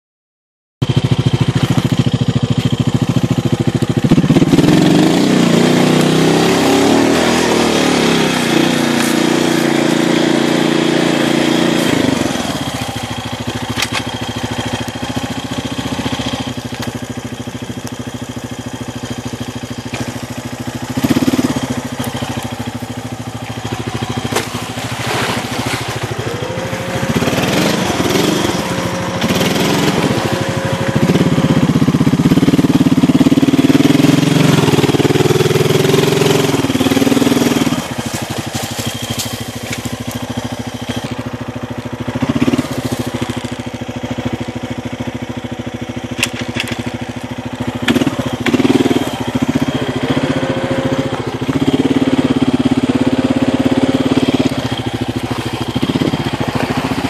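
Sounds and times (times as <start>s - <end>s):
atv engine revving: 0.8s - 57.0s.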